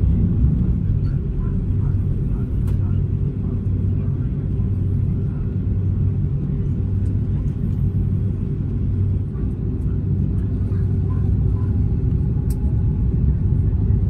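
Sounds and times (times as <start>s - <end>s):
airliner cabin engine drone: 0.0s - 14.0s.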